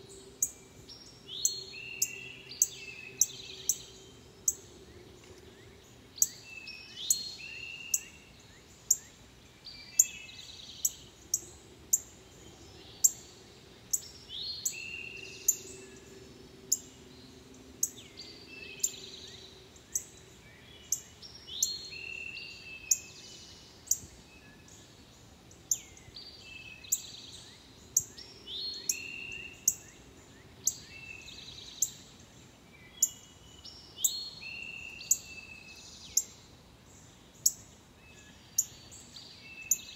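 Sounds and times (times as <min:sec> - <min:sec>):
songbird chip notes: 0:00.0 - 0:39.9
whistled birdsong and trills: 0:00.0 - 0:39.9.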